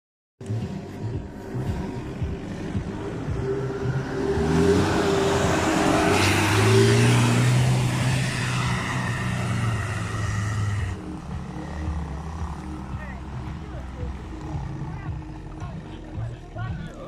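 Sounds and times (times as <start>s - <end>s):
suv engine revving hard: 1.4s - 15.3s.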